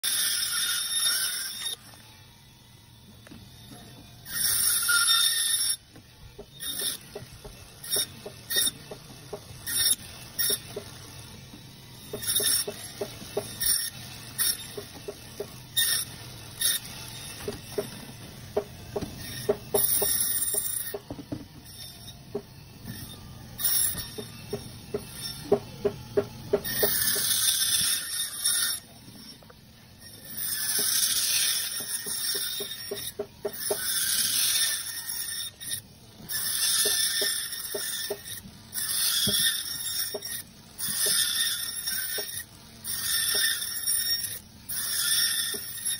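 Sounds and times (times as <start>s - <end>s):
band saw cutting frozen fish: 0.0s - 45.9s.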